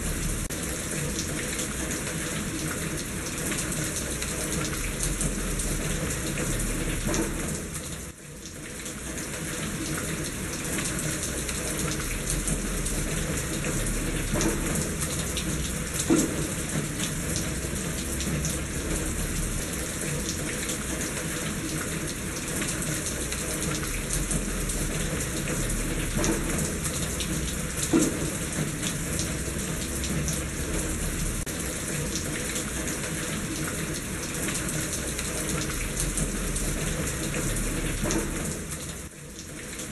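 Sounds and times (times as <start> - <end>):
steady rain: 0.0 - 39.9
water drips: 0.0 - 39.9
water splashing in a gutter: 0.0 - 39.9.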